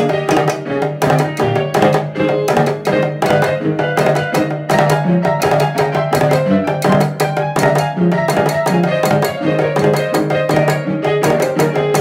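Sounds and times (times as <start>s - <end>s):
drum struck with sticks: 0.0s - 12.0s
ragtime piano: 0.0s - 12.0s.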